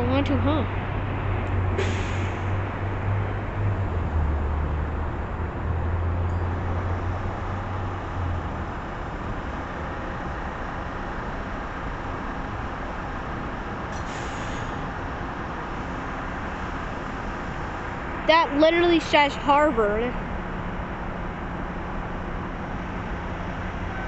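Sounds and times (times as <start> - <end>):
background traffic noise: 0.0 - 24.0.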